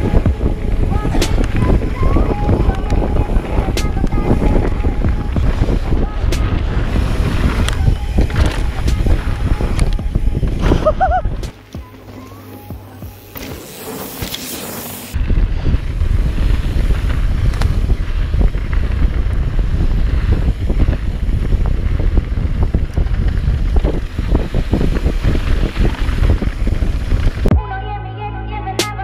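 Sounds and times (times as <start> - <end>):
wind buffeting on microphone: 0.0 - 11.6, 12.9 - 27.5.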